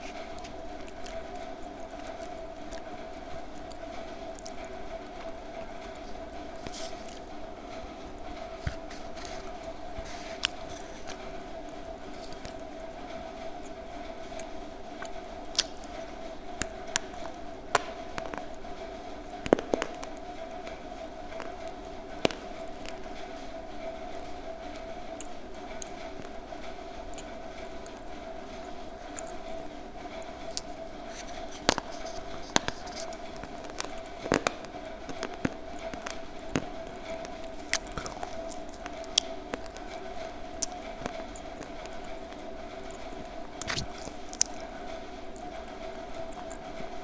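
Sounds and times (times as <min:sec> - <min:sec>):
crunchy chewing: 0:00.0 - 0:46.8
steady hum: 0:00.0 - 0:47.0.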